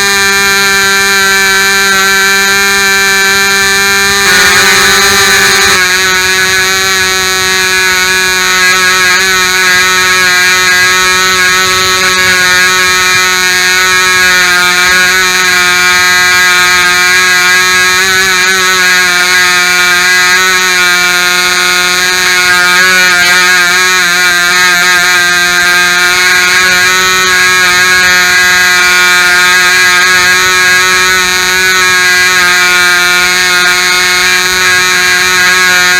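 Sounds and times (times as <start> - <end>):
model airplane engine buzzing: 0.0 - 35.9.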